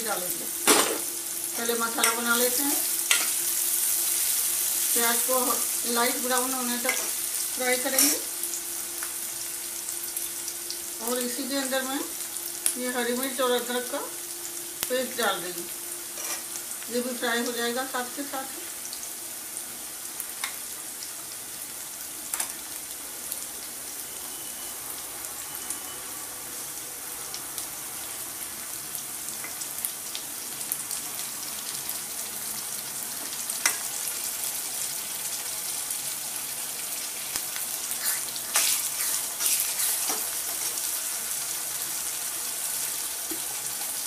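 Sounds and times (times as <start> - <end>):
onions sizzling in hot oil: 0.0 - 44.0.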